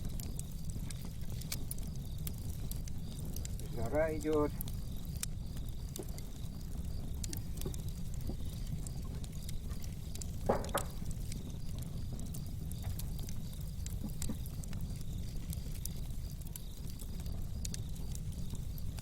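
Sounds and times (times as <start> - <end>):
low fire rumble: 0.0 - 19.0
sharp pops of fire: 0.0 - 19.0
wood fire crackling in a stove: 0.0 - 19.0.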